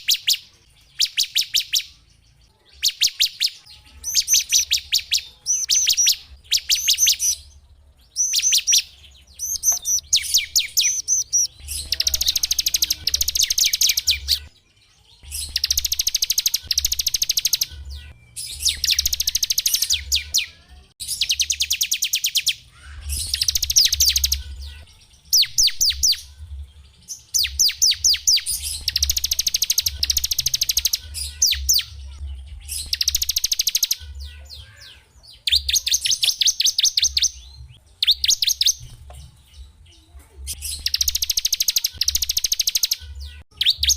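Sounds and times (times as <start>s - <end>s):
songbird trilling: 2.7s - 14.5s, 15.2s - 26.4s, 27.1s - 38.8s, 40.5s - 43.9s.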